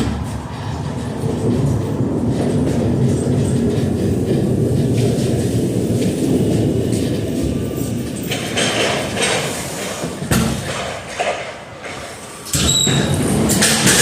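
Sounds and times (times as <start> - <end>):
heavy machinery rumble: 0.0 - 14.0.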